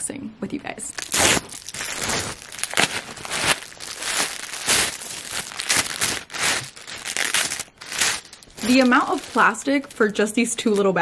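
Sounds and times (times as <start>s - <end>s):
plastic mailer tearing: 0.9s - 10.9s
plastic bags crinkling: 0.9s - 11.0s.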